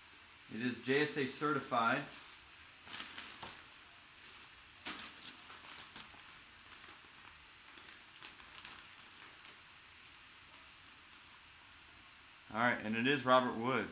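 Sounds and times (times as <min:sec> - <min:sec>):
plastic wrap and bag rustling: 0:00.0 - 0:11.7.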